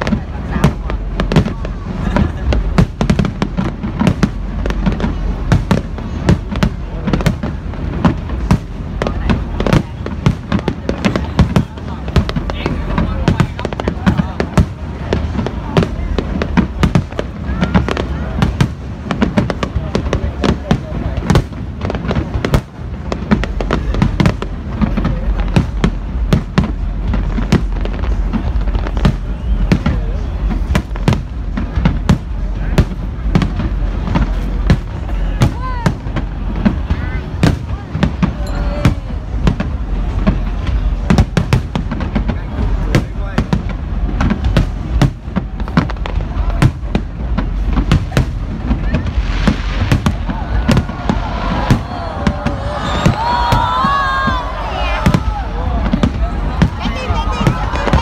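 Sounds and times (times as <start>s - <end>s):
fireworks bangs and crackles: 0.0s - 58.0s
low rumble of distant fireworks: 0.0s - 58.0s.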